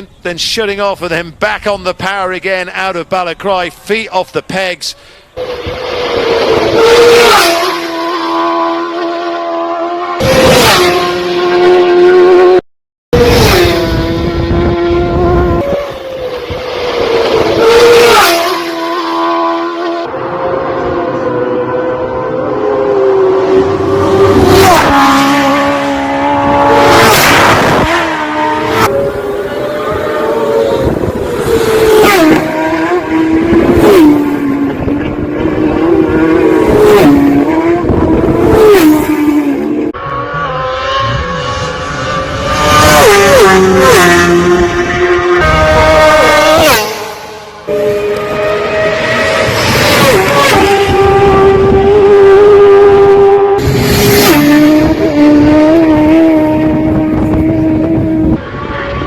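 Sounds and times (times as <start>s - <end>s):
rushing wind and road noise: 0.0s - 12.6s, 13.2s - 59.0s
racing motorcycle engine revving: 5.4s - 12.6s, 13.2s - 59.0s.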